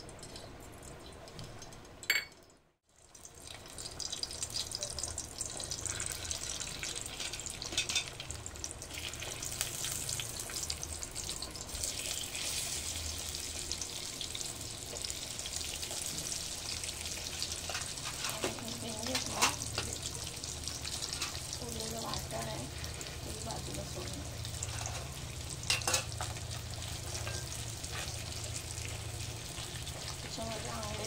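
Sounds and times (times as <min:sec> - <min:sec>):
hot oil sizzling and crackling: 0:00.0 - 0:31.0.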